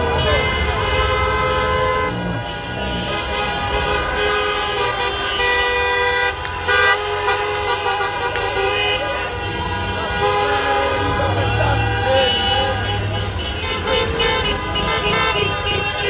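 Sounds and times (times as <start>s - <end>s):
car horns honking: 0.0s - 16.0s.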